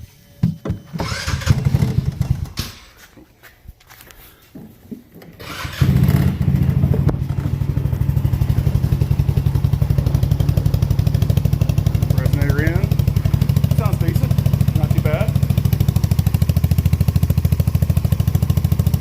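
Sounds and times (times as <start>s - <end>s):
engine starting and idling: 0.9s - 2.9s, 5.3s - 19.0s.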